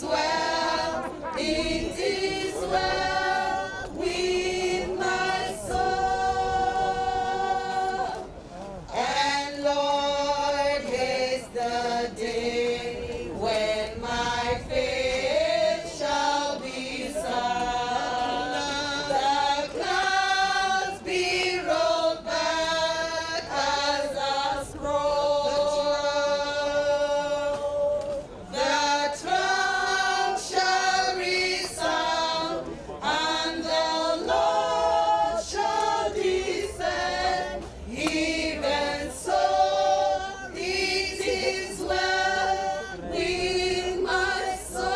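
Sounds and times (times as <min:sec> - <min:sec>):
women singing in chorus: 0:00.0 - 0:44.9.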